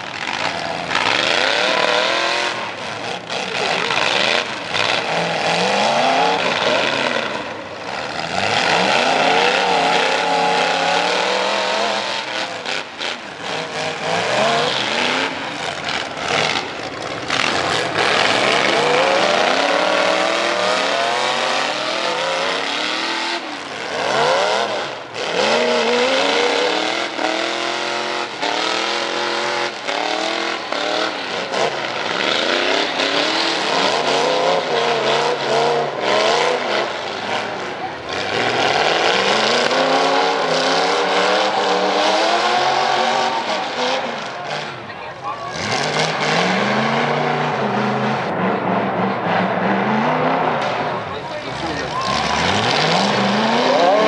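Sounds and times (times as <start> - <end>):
truck engines revving: 0.0 - 54.0.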